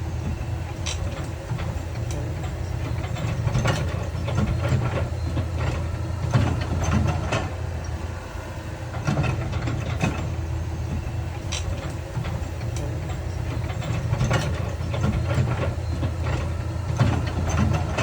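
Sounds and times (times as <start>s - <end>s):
diesel engine of heavy machinery: 0.0s - 18.0s.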